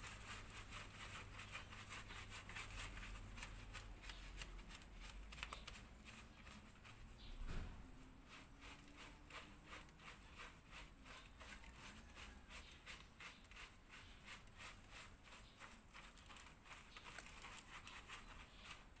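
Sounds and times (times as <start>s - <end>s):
hands scrubbing wet dog fur: 0.0s - 7.2s, 7.9s - 19.0s.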